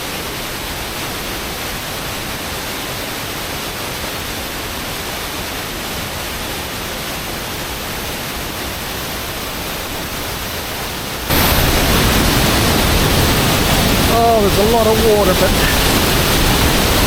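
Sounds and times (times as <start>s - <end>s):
waterfall rushing: 0.1s - 17.0s.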